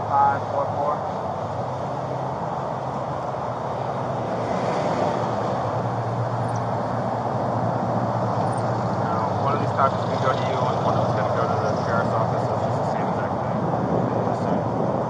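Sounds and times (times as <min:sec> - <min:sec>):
low engine hum: 0:00.0 - 0:15.0
traffic noise: 0:00.0 - 0:15.0.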